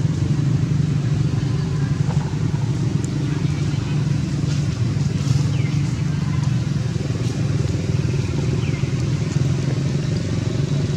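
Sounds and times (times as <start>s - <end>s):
low engine-like drone: 0.0s - 10.9s.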